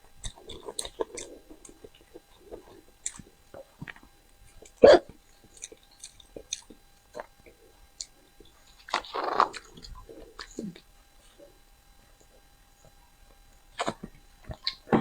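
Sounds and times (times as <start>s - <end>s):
person chewing with wet smacks: 0.0s - 15.0s.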